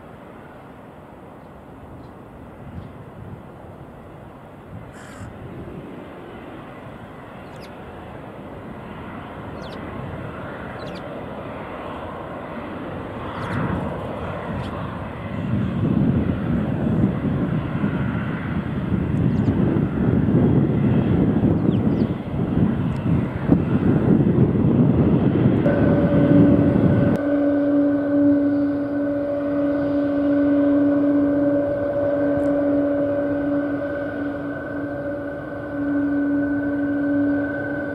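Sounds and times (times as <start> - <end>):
jet engines roaring at takeoff: 0.0 - 37.9.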